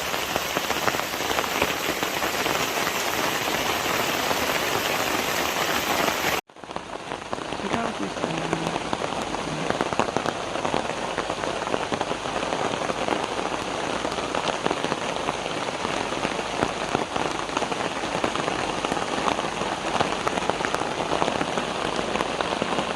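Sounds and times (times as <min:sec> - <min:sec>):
steady rain with dripping drops: 0:00.0 - 0:22.9.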